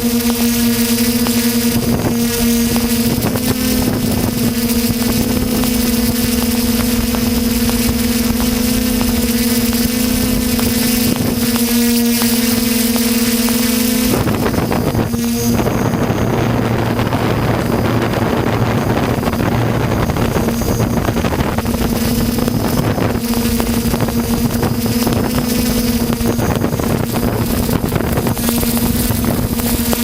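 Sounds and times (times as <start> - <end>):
drone propellers humming: 0.0 - 30.0
wind noise on microphone: 0.0 - 30.0.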